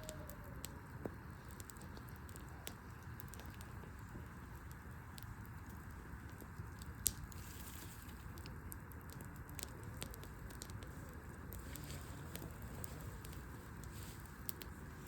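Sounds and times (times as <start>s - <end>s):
low background noise: 0.0s - 15.0s
wood fire crackling: 0.0s - 15.0s.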